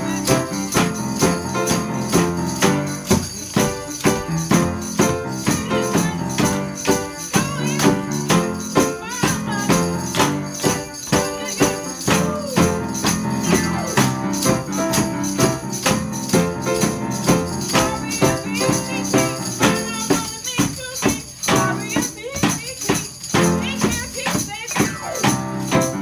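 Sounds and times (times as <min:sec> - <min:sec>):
piano playing chords: 0:00.0 - 0:20.2, 0:24.8 - 0:26.0
tambourine jingling: 0:00.0 - 0:26.0.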